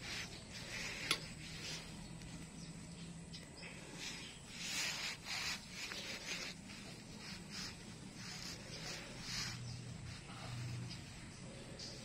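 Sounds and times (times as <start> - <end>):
cat scuffling and rustling: 0.0 - 3.1, 4.0 - 12.0.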